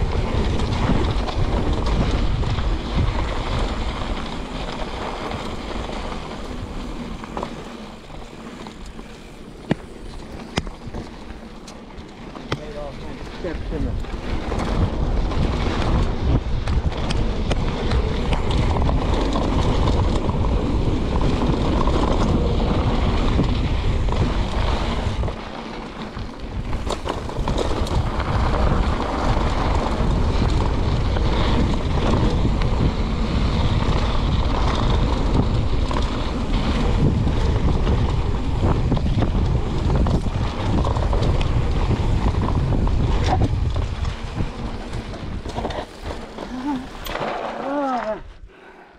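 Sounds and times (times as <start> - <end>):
wind buffeting microphone: 0.0 - 47.2
bike tyres rumbling over dirt: 0.0 - 48.9.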